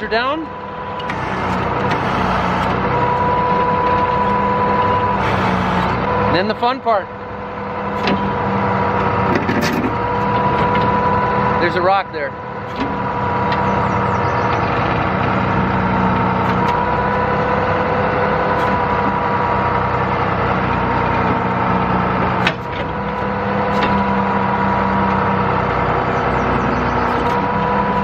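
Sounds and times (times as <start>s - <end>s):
engine running hard: 0.0s - 28.0s
hydraulic whine: 0.4s - 28.0s.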